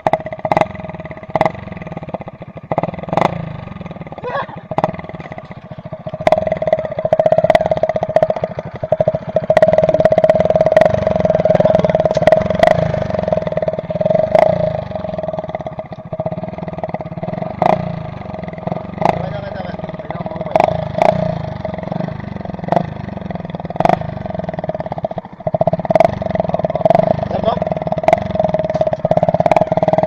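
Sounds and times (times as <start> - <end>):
exhaust cracks: 0.0 - 30.0
motorcycle engine running: 0.0 - 30.0.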